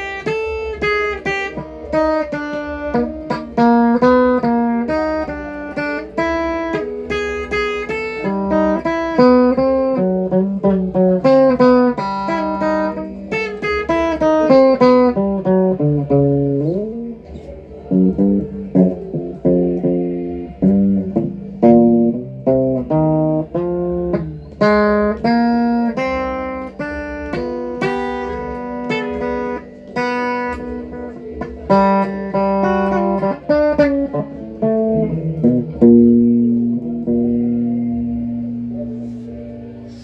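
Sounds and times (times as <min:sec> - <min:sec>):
electric guitar melody: 0:00.0 - 0:40.0.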